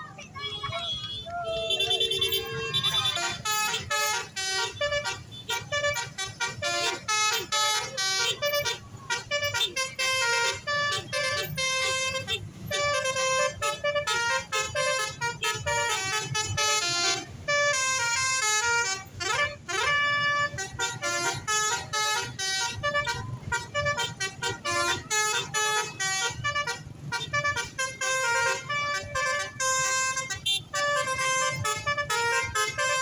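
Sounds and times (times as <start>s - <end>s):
bus horn tooting melody: 0.0s - 33.0s.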